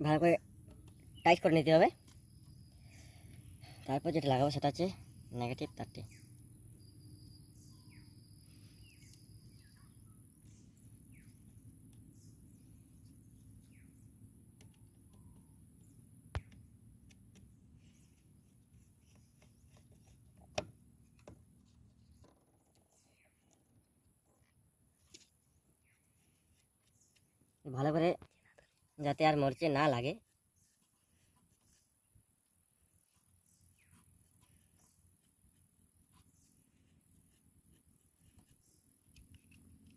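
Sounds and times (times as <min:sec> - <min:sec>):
faint bird chirps: 0:00.0 - 0:39.9.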